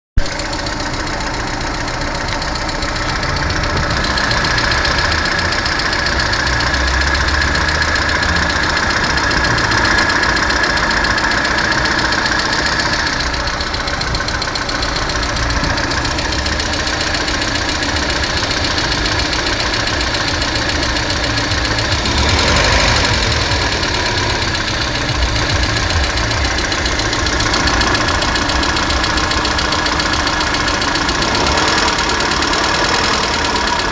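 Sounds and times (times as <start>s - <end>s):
petrol engine running with a knock: 0.2s - 33.9s.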